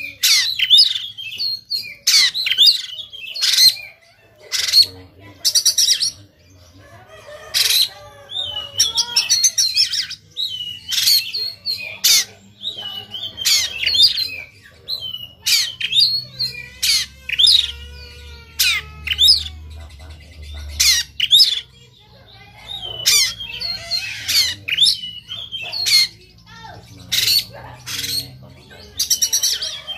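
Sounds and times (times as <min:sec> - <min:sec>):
bird harsh rasping notes: 0:00.0 - 0:29.9.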